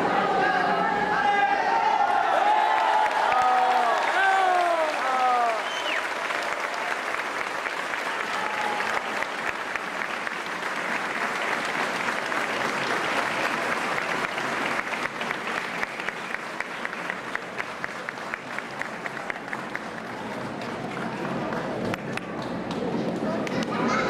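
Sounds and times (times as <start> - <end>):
crowd applauding: 2.0 - 23.9.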